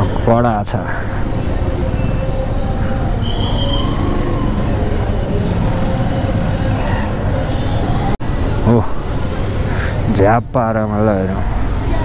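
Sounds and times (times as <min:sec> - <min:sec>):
scooters and cars: 0:00.0 - 0:12.0.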